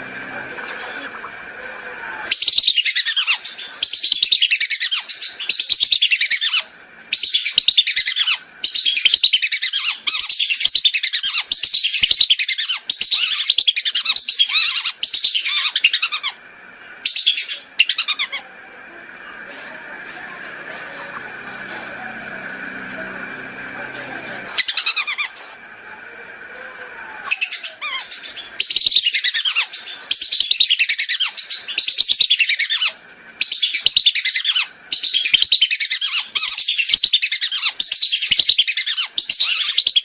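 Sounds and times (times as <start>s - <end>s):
whistling ducks calling: 0.0s - 18.6s, 20.3s - 25.5s, 26.1s - 40.0s.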